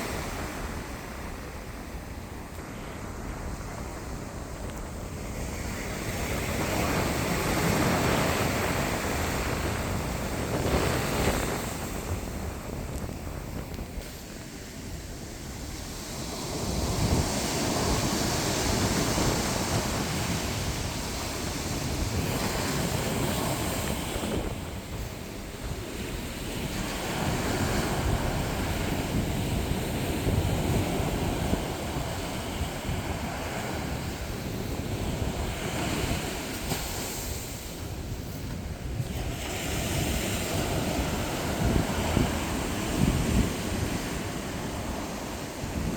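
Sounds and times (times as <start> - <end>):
sea waves breaking on shore: 0.0 - 45.9.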